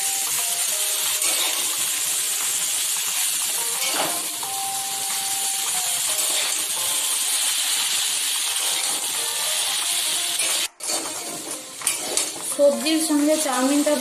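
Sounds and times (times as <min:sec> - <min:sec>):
noodles sizzling in oil: 0:00.0 - 0:14.0.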